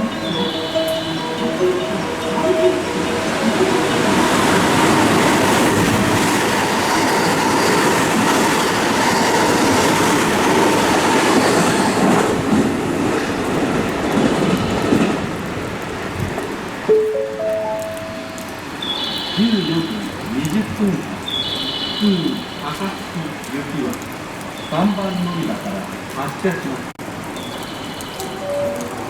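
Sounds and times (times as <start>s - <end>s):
electric train passing: 0.0s - 25.4s, 27.1s - 29.0s.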